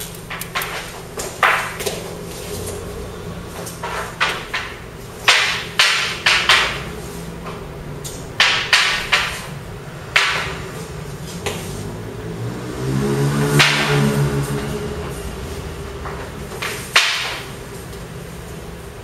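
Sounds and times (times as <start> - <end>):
wooden shafts clacking: 0.0 - 11.7, 13.4 - 18.0.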